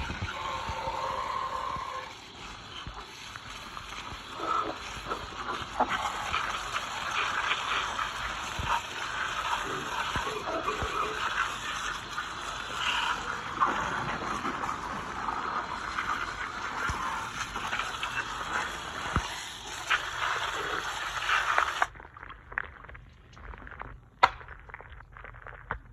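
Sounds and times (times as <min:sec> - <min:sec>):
water spraying onto engine: 0:00.0 - 0:21.9.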